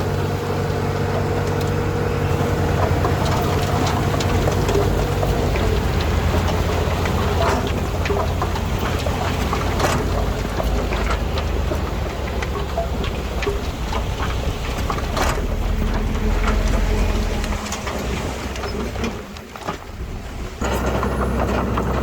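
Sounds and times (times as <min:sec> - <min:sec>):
bulldozer diesel engine rumbling: 0:00.0 - 0:22.0
steel tracks clicking and crackling: 0:00.0 - 0:22.0.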